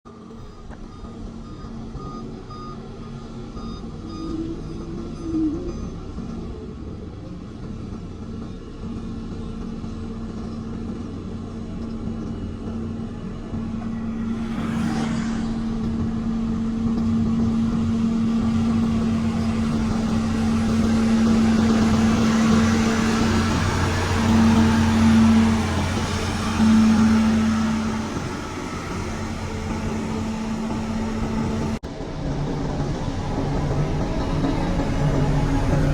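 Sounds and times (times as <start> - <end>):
diesel engine running under load: 0.1 - 35.9.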